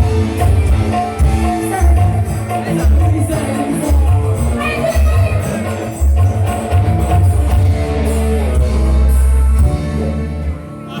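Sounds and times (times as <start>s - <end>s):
live band music over sound system: 0.0s - 11.0s.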